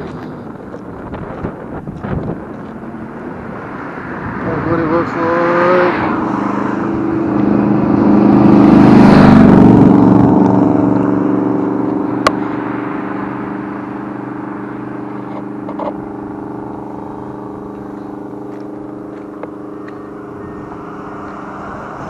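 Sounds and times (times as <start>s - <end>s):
vehicle engine passing by: 0.0s - 22.0s.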